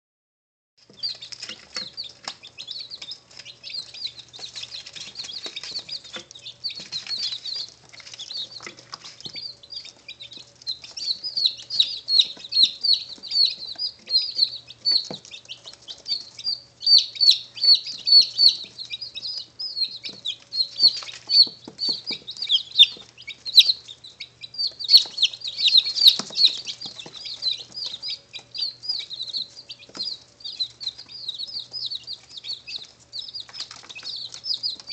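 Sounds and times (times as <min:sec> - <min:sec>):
chicks peeping: 0:00.8 - 0:34.9.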